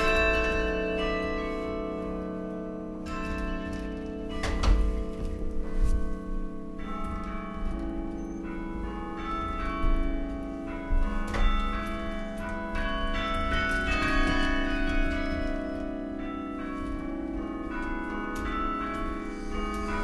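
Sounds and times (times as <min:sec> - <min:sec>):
carillon bells ringing: 0:00.0 - 0:20.0.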